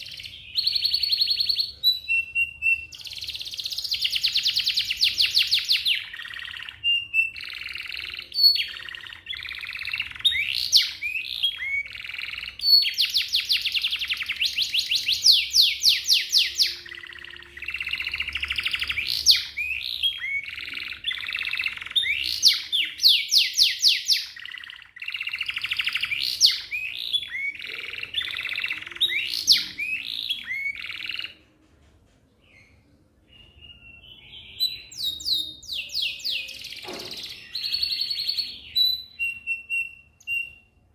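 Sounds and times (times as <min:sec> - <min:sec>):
canary singing trills: 0:00.0 - 0:31.4, 0:32.5 - 0:40.9.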